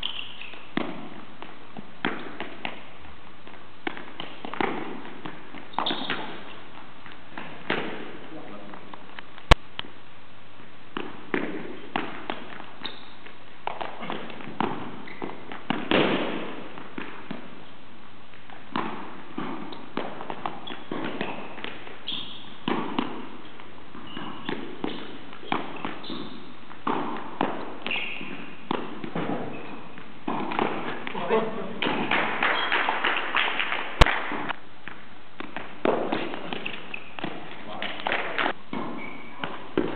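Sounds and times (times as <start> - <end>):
shoes squeaking on court floor: 0.0 - 9.5, 11.0 - 39.9.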